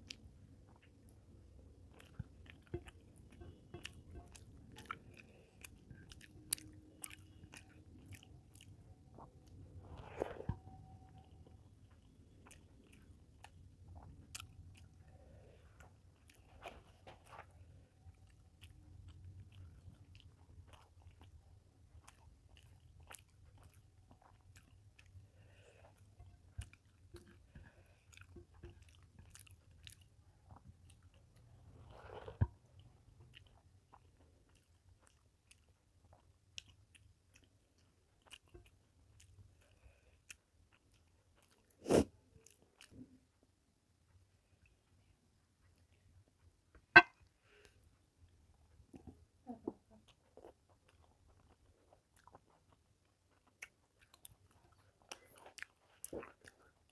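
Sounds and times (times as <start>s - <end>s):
person chewing with mouth smacks: 0.0s - 56.9s.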